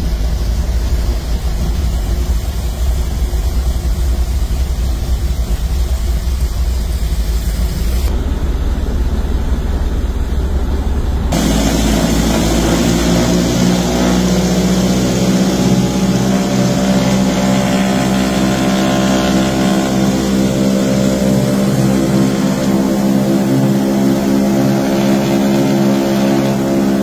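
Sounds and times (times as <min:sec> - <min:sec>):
propeller engine drone: 0:00.0 - 0:27.0.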